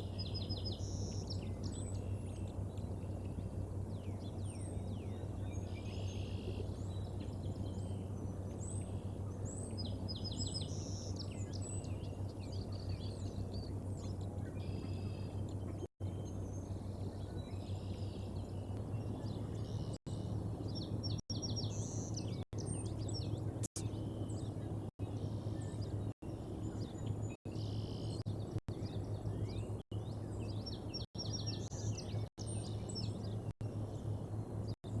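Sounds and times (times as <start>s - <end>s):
low hum and hiss: 0.0s - 35.0s
small birds chirping: 0.0s - 35.0s.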